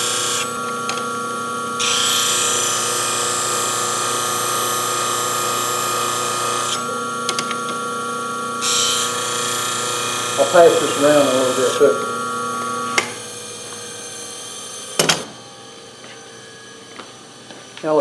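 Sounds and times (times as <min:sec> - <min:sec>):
steel grinding on sharpening wheel: 0:00.0 - 0:15.0
grinding wheel humming: 0:00.0 - 0:18.0.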